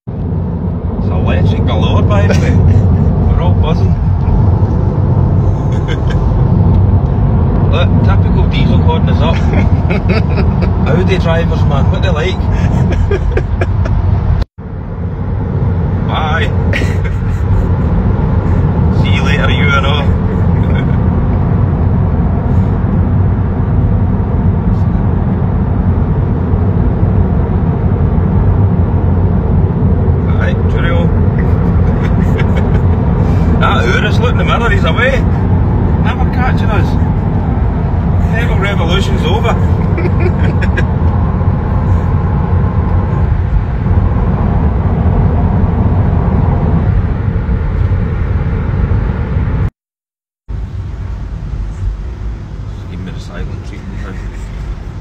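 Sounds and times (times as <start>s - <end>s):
tyre and road noise in car cabin: 0.0s - 49.8s, 50.5s - 55.0s
wind rush: 0.1s - 49.7s.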